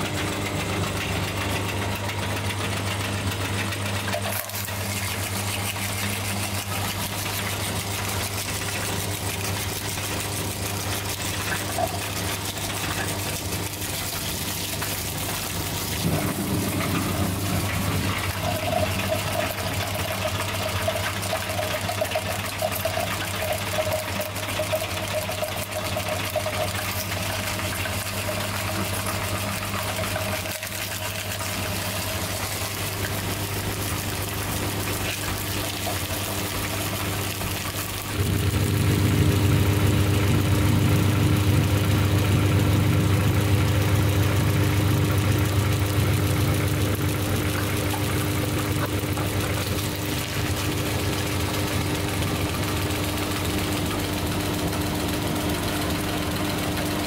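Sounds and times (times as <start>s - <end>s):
meat grinder humming: 0.0s - 57.0s.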